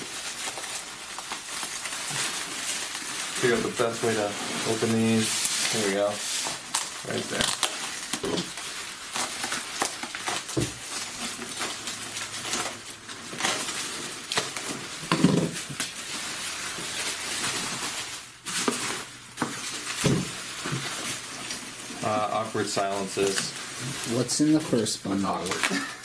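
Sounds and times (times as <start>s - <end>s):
bubble wrap crinkling and snapping: 0.0s - 26.0s.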